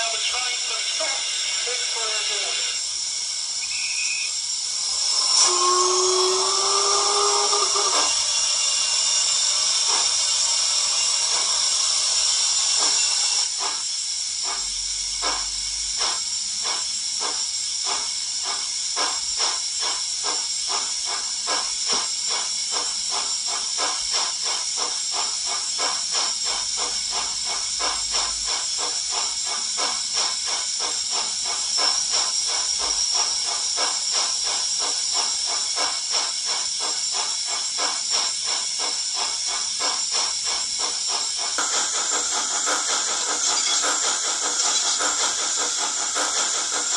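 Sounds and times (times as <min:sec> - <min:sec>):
steam hiss: 0:00.0 - 0:46.9
steam locomotive exhaust chuffs: 0:00.0 - 0:46.9.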